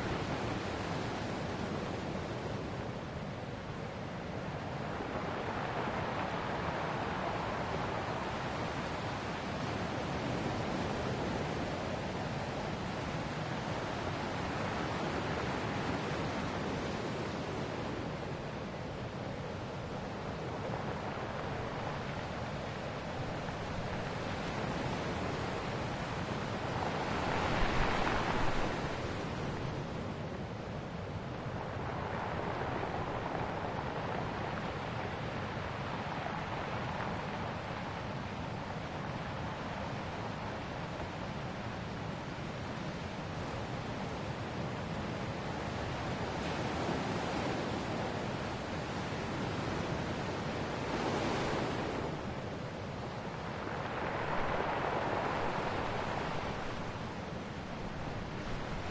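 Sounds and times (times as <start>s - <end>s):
ocean waves washing onto shore: 0.0s - 58.9s.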